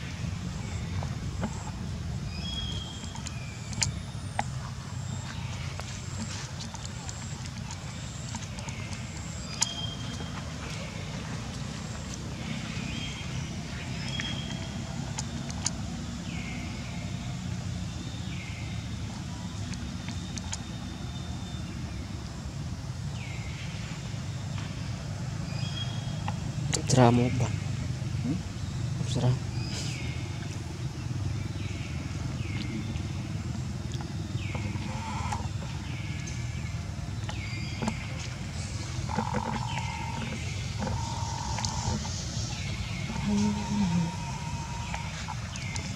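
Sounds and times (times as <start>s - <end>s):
low motor rumble: 0.0s - 45.9s.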